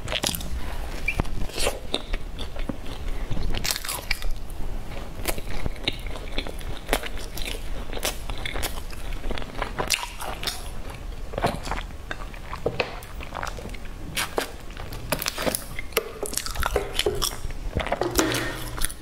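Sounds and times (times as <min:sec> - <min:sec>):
chewing soft bread: 0:00.0 - 0:19.0.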